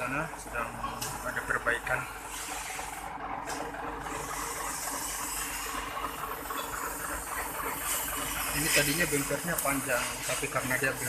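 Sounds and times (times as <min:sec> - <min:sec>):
low machinery rumble: 0:00.0 - 0:11.0.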